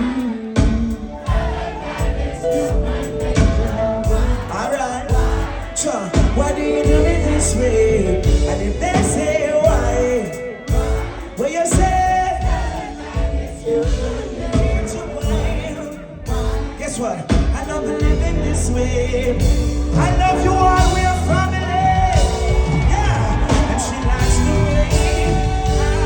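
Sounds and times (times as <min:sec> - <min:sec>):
strong bass: 0:00.0 - 0:11.2, 0:11.8 - 0:26.0
lead vocal singing: 0:00.0 - 0:26.0
live reggae band playing: 0:00.0 - 0:26.0.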